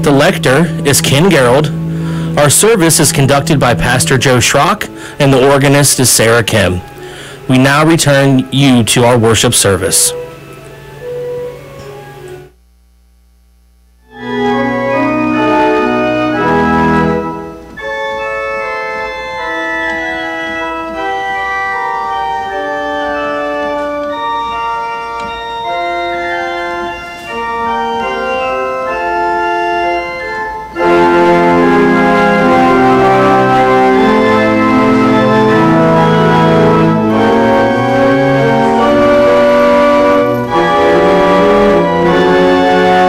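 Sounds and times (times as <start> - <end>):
church organ playing slow chords: 0.0 - 12.6, 14.0 - 43.0.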